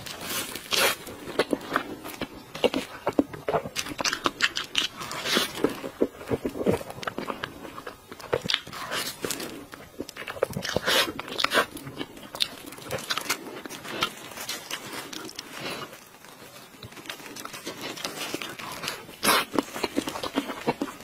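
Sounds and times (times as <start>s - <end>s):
person chewing: 0.0s - 21.0s
plastic gloves crinkling: 0.0s - 21.0s.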